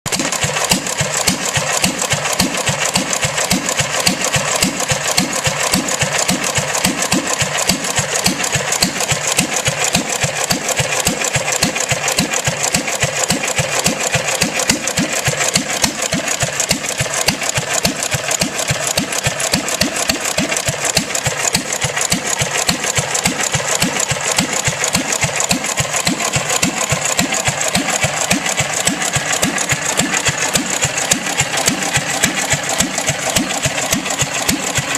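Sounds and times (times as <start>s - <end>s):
stationary gas engine running: 0.1s - 34.9s.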